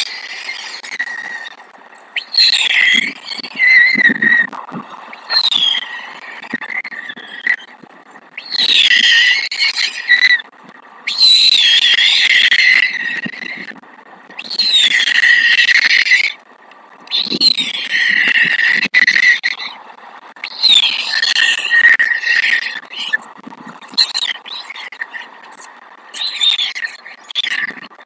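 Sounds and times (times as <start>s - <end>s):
raspy animal calls: 0.0s - 10.5s, 11.1s - 16.4s, 17.1s - 19.8s, 20.4s - 28.0s.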